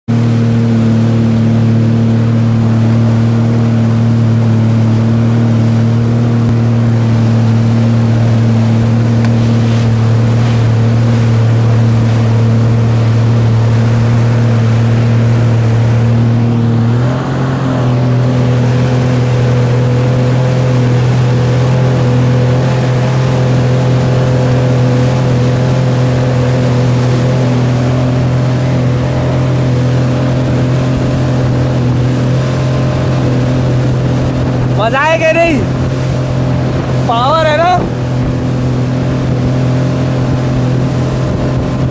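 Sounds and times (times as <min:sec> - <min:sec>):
speedboat engine running: 0:00.0 - 0:41.9
wind and water rushing: 0:00.1 - 0:41.9.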